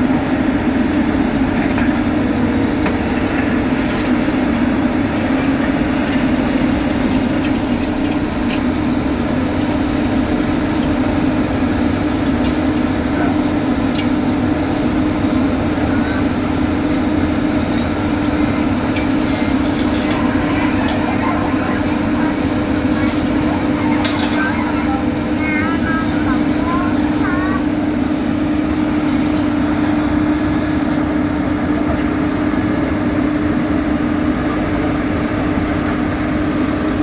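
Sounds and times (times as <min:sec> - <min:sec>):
diesel machinery engine drone: 0:00.0 - 0:37.0.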